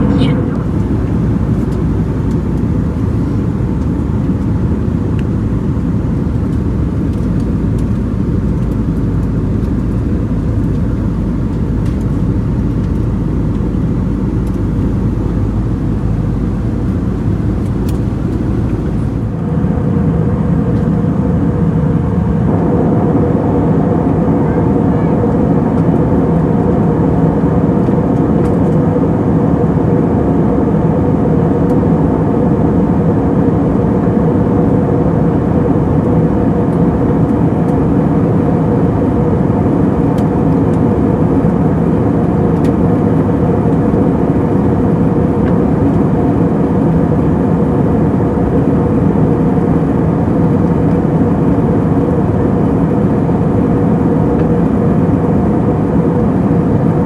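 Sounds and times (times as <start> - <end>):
airflow rushing in aircraft cabin: 0.0 - 57.0
low engine hum: 0.0 - 57.0.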